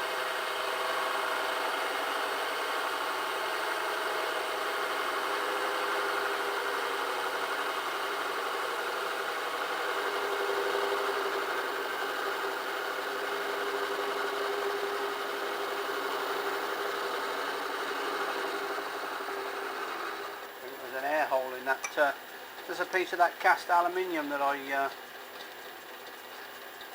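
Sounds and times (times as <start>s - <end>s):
metal lathe humming: 0.1s - 25.0s.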